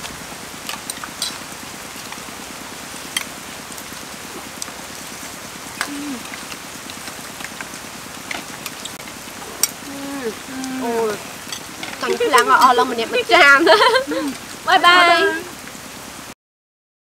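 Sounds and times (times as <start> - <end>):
steady rain-like hiss: 0.0 - 16.4.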